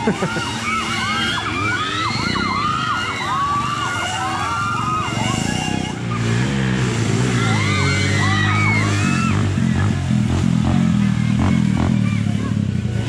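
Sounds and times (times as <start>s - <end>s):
dirt bike engine drone: 0.0s - 13.0s.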